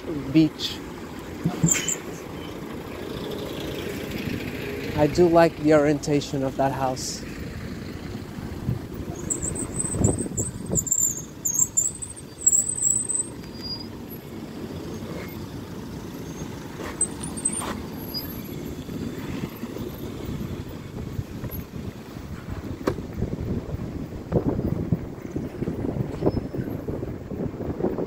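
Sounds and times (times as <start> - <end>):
traffic rumble: 0.0 - 28.0
wind: 0.0 - 28.0.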